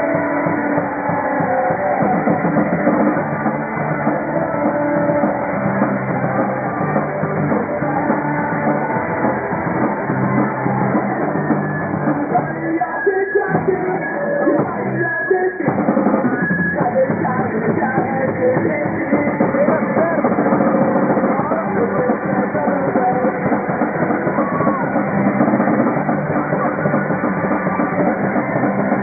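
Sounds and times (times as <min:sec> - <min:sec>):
drum kit: 0:00.0 - 0:12.8, 0:13.4 - 0:15.0, 0:15.6 - 0:29.0
person singing: 0:00.0 - 0:29.0
punk rock band playing live: 0:00.0 - 0:29.0.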